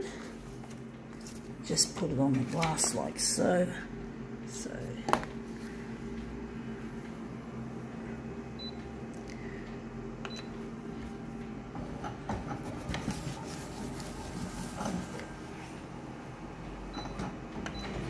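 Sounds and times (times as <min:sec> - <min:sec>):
photocopier humming: 0:00.0 - 0:18.0.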